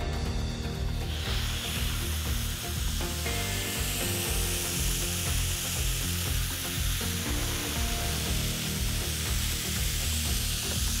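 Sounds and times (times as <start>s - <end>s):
background music with bass line: 0.0s - 11.0s
batter sizzling: 0.7s - 11.0s.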